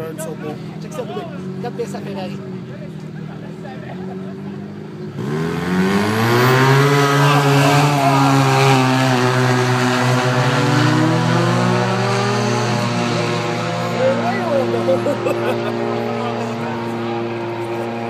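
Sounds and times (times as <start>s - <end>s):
racing car engines at full throttle: 0.0s - 18.0s.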